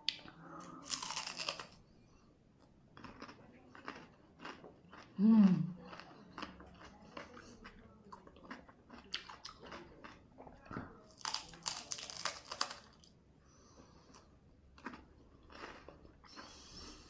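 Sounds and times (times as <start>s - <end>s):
person chewing crunchy food: 0.1s - 1.8s, 2.9s - 10.4s, 11.2s - 13.1s, 13.8s - 17.0s.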